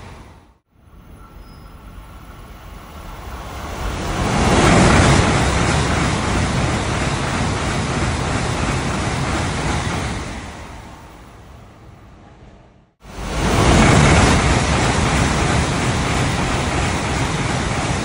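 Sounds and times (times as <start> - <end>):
high-speed train passing: 0.0 - 18.0.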